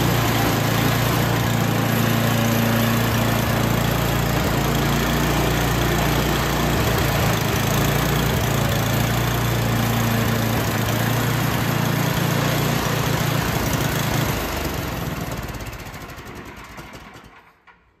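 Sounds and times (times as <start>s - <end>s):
snowblower engine running: 0.0s - 17.6s.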